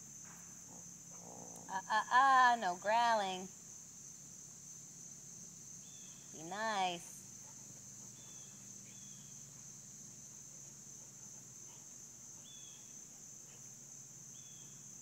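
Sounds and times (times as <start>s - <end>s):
faint insect chirps: 0.0s - 15.0s
insect chorus drone: 0.0s - 15.0s.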